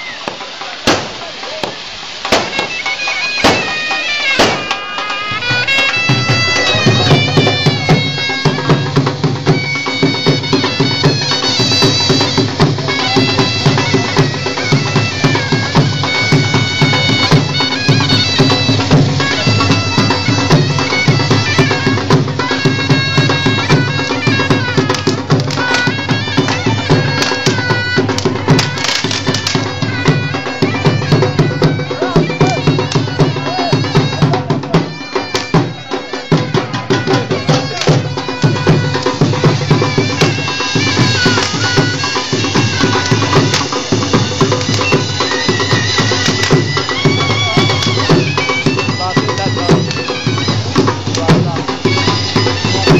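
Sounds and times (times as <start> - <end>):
drum beat: 0.0 - 52.9
bagpipe drone and melody: 2.4 - 52.9.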